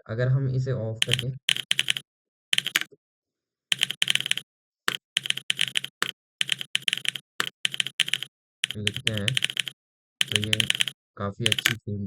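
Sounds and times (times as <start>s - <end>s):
keyboard typing clicks: 1.0s - 3.0s, 3.7s - 11.8s.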